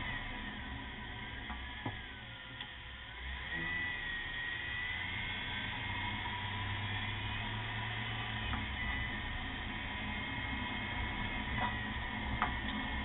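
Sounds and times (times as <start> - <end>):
faint wavering whine: 0.0 - 13.0
vehicle running noise: 0.0 - 13.0.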